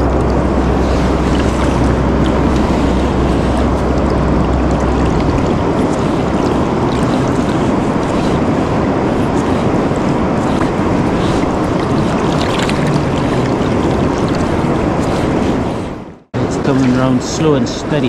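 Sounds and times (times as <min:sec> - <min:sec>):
river rushing: 0:00.0 - 0:17.6
low rumble: 0:00.0 - 0:18.0
wind noise on microphone: 0:00.0 - 0:18.0.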